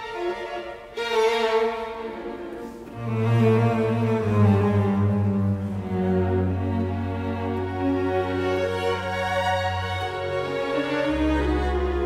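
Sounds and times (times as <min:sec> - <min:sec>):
bowed strings playing slow notes: 0:00.0 - 0:12.0.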